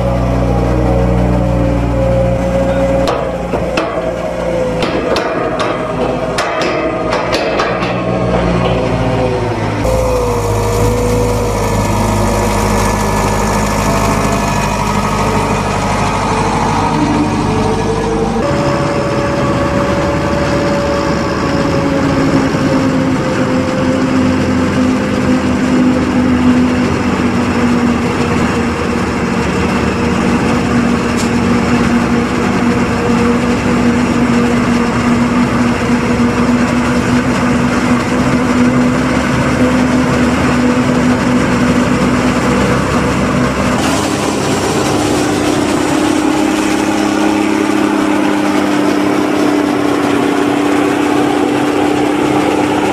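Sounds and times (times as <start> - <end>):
forage harvester engine and chopper drone: 0.0 - 52.9.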